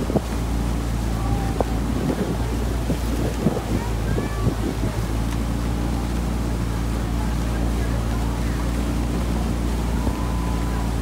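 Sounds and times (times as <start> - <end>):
motorboat engine humming: 0.0 - 11.0
water noise: 0.0 - 11.0
wind: 0.0 - 11.0.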